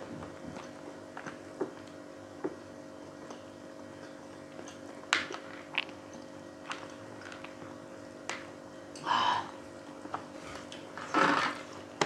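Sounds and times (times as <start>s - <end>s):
steady low hum: 0.0s - 12.0s
people chewing with wet clicks: 0.2s - 9.1s, 9.8s - 11.0s.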